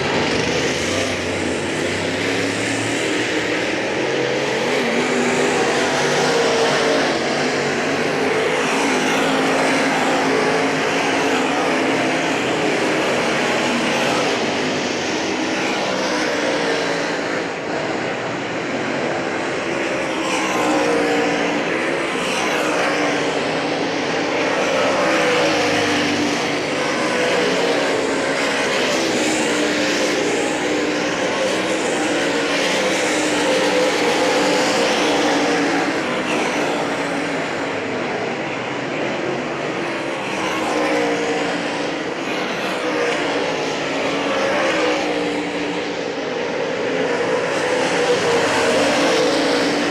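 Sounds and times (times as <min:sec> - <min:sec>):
race car engines: 0:00.0 - 0:49.9.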